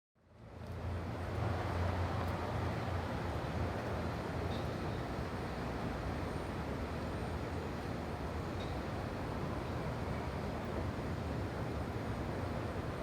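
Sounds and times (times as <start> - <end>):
low rumble of traffic: 0.2 - 13.0.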